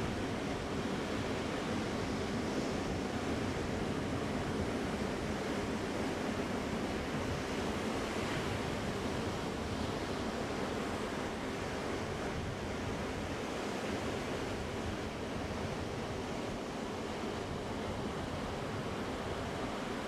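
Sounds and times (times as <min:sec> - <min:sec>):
ocean waves washing onto beach: 0:00.0 - 0:20.0.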